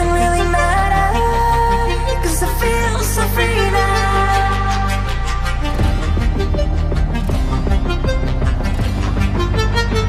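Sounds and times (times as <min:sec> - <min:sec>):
sustained chords over bass note: 0:00.0 - 0:10.0.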